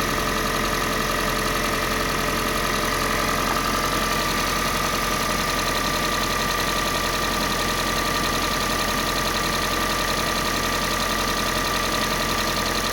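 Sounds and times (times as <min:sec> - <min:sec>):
car engine idling with knock: 0:00.0 - 0:12.9.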